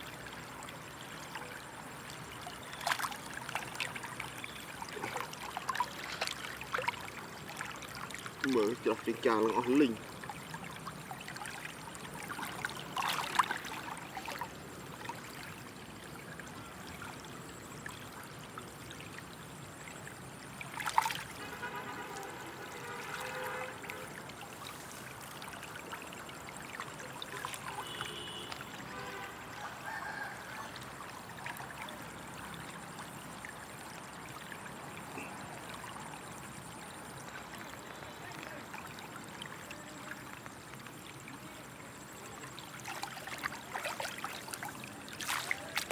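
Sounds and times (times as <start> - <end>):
water running and trickling: 0.0 - 45.9
water splashes: 0.0 - 45.9.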